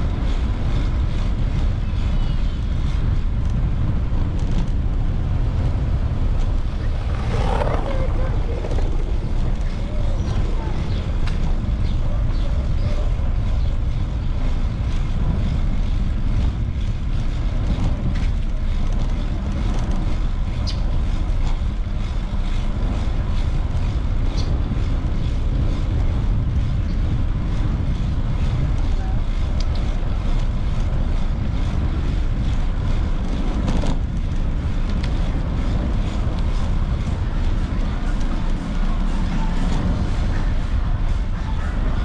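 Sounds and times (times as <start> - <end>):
low wind rumble on microphone: 0.0 - 42.0
street noise: 0.0 - 42.0.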